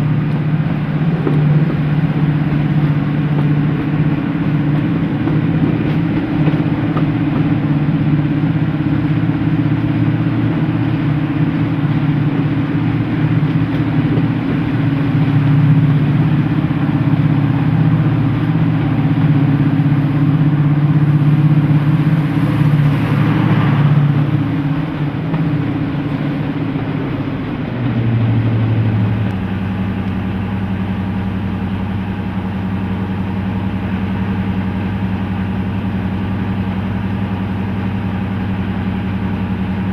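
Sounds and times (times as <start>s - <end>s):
diesel locomotive engines running: 0.0s - 39.9s.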